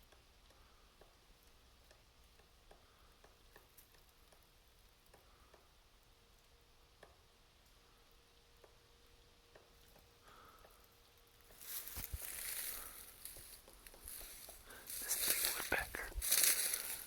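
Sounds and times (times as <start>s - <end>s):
woodpecker pecking at tree: 0.0s - 17.0s.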